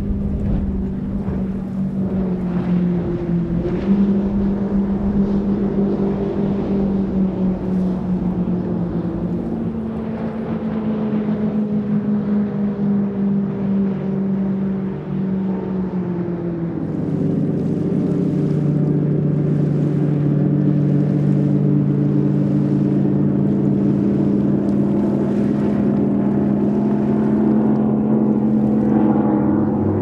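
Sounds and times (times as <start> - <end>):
powerboat engines droning: 0.0 - 30.0.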